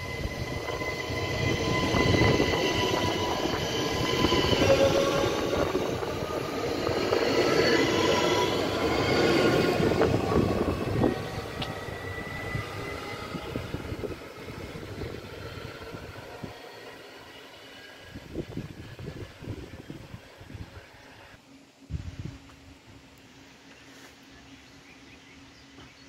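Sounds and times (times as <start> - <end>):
faint high squealing tones: 0.0 - 21.4
train wheels rumbling: 0.0 - 21.4.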